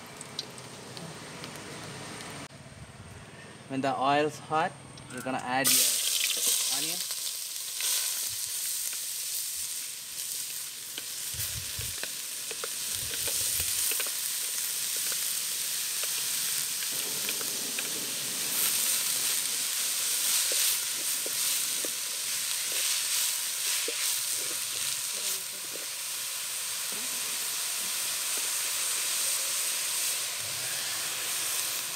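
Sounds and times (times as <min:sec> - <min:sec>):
onions sizzling in hot oil: 0:05.6 - 0:31.9.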